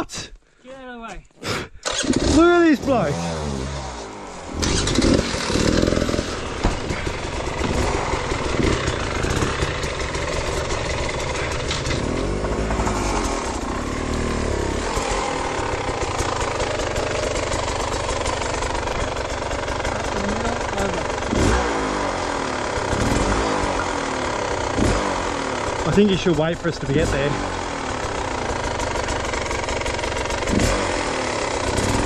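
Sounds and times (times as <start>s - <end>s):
dirt bike engines revving: 1.5s - 32.0s.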